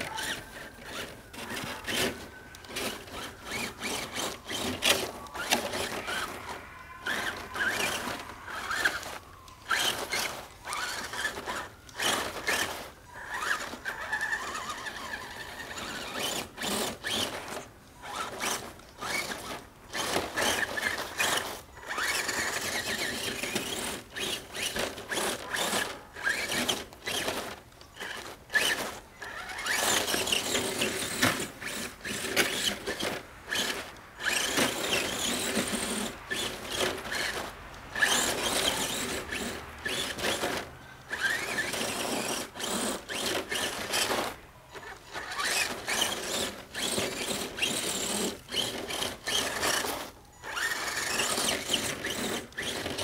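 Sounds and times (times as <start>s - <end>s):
toy truck electric motor whining: 0.0s - 53.0s.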